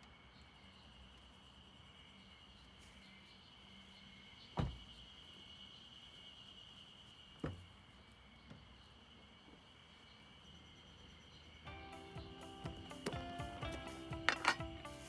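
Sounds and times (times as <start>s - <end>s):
insects chirring: 0.0s - 14.6s.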